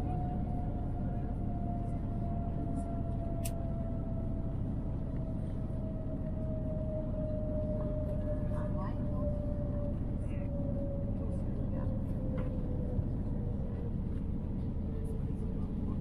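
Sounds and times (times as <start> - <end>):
aircraft cabin rumble and whine: 0.0 - 16.0.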